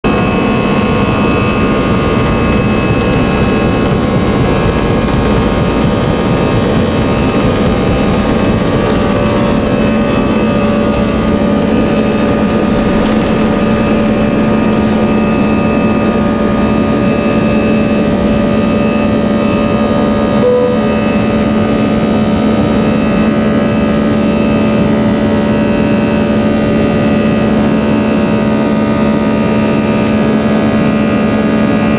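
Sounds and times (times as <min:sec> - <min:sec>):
jet engines roaring with whine: 0:00.0 - 0:31.9
low hum: 0:00.0 - 0:31.9.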